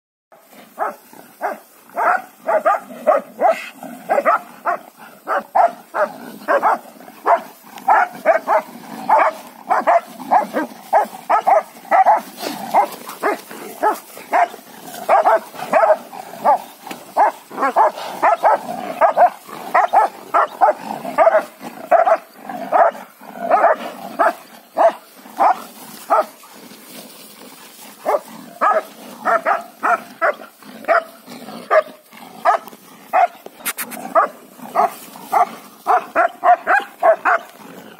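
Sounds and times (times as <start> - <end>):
dog barking rapidly: 0.8 - 26.3, 28.0 - 31.1, 31.7 - 33.4, 34.1 - 37.5.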